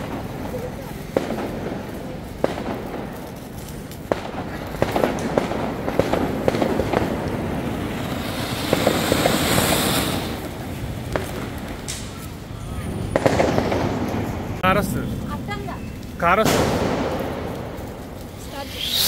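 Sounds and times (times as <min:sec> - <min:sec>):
firework cracks and crackling: 0:00.0 - 0:19.0
fireworks fountains hissing: 0:00.0 - 0:19.0.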